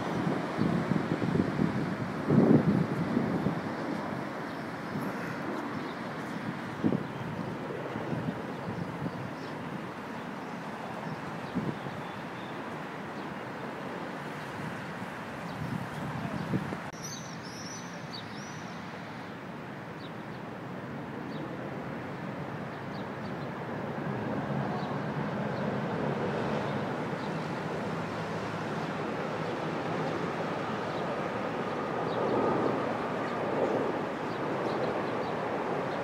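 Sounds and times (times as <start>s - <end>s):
jet aircraft rumble overhead: 0.0s - 36.0s.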